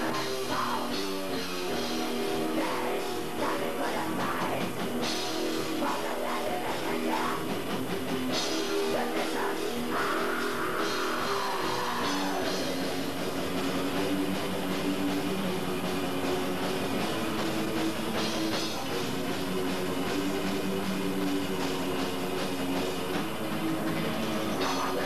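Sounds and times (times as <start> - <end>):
distorted electric guitars: 0.0 - 25.0
drum kit beat: 0.0 - 25.0.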